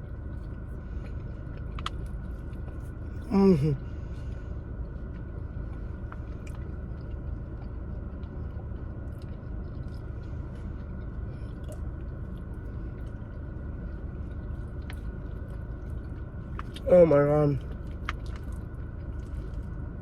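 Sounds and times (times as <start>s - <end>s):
person chewing food: 0.0s - 16.9s, 17.6s - 20.0s
steady low rumble: 0.0s - 20.0s.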